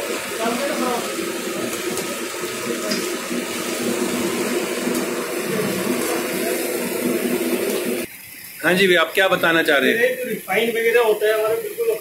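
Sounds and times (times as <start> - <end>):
egg and oil sizzling: 0.0 - 12.0.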